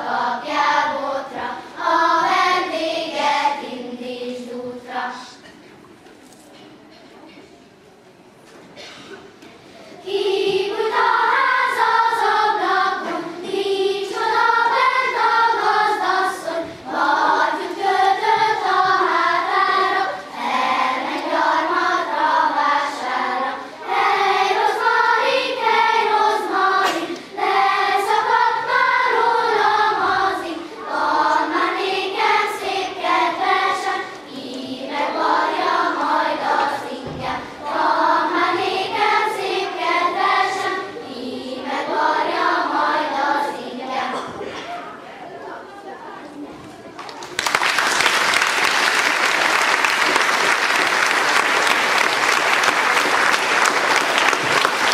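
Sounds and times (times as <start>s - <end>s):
children's choir singing: 0.0s - 5.8s, 9.6s - 46.8s, 47.8s - 54.9s.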